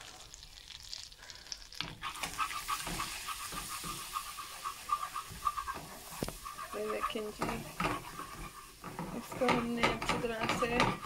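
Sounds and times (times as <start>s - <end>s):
butter and flour sizzling in a pan: 0.0s - 11.0s
whisk stirring in a pan: 1.8s - 11.0s.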